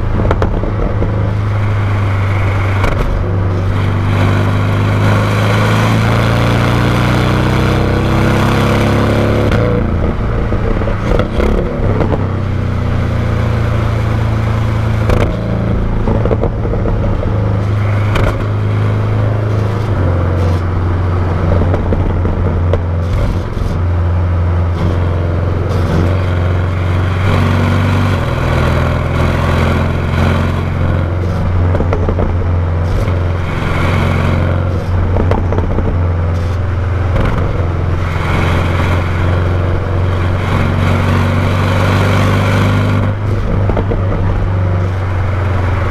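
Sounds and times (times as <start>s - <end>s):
car exhaust drone: 0.0s - 45.9s.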